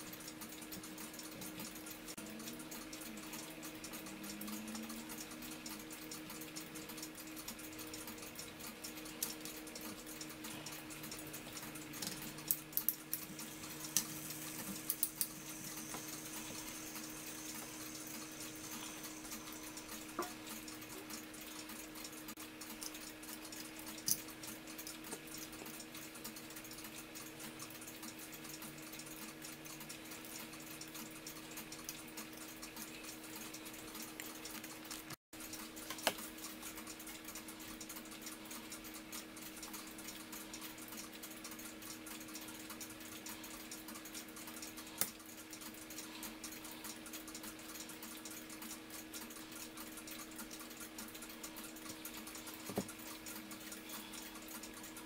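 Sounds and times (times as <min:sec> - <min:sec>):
small metallic clicks and taps: 0:00.0 - 0:55.0
steady low hum: 0:00.0 - 0:55.0.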